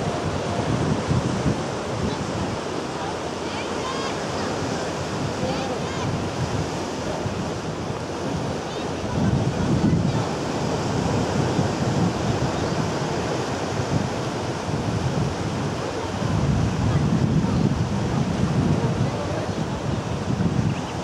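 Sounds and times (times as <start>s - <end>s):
waves washing over rocky shore: 0.0s - 21.0s
wind on microphone: 0.0s - 21.0s.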